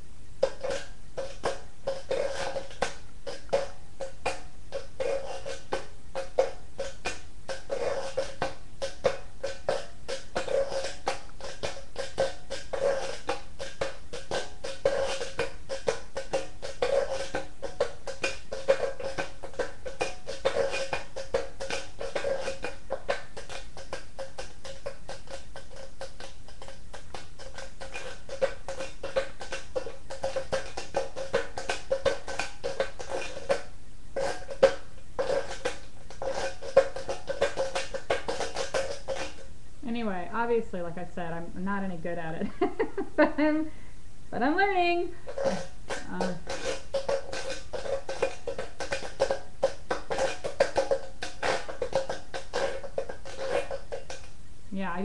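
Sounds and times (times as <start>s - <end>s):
washboard tapping and scraping: 0.0s - 43.6s, 44.4s - 55.0s.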